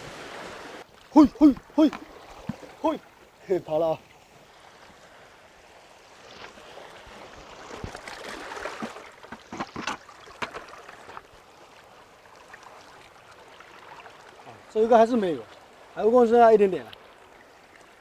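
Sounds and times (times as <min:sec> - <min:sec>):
seawater splashing among rocks: 0:00.0 - 0:18.0.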